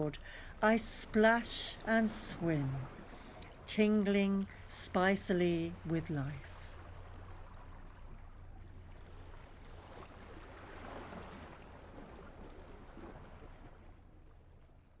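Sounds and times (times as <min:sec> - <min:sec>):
gentle waves: 0:00.0 - 0:15.0.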